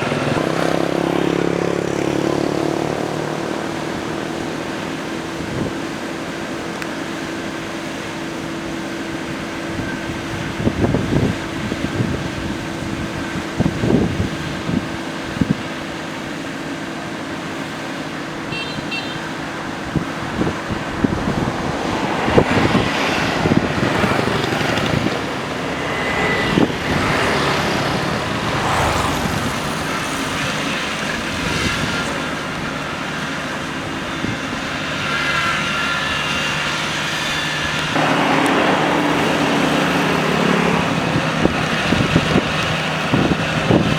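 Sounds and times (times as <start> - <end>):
engine hum: 0.0 - 18.6, 19.2 - 43.9
vehicles passing: 0.0 - 43.9.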